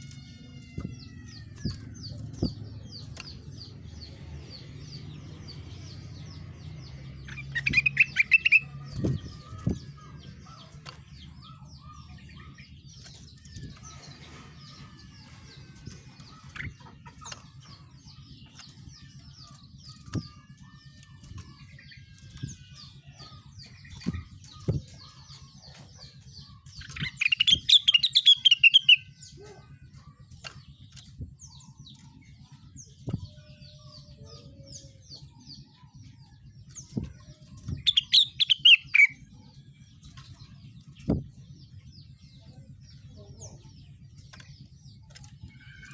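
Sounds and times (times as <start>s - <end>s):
songbird trilling: 0.0s - 45.9s
steady low hum: 0.0s - 45.9s
faint bird chirps: 5.7s - 45.9s.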